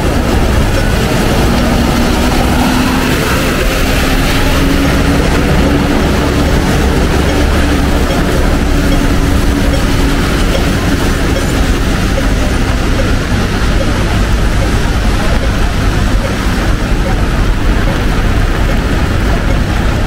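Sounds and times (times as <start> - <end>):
low hum: 0.0 - 20.0
train rumbling: 0.0 - 20.0.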